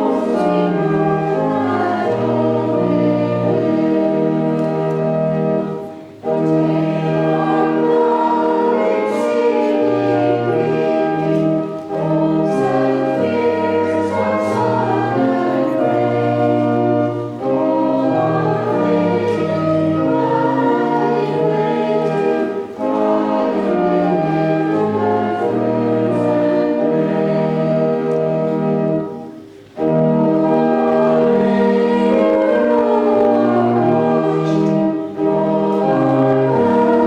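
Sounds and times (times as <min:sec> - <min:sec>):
congregation singing a hymn: 0:00.0 - 0:37.0
instrumental accompaniment: 0:00.0 - 0:37.0.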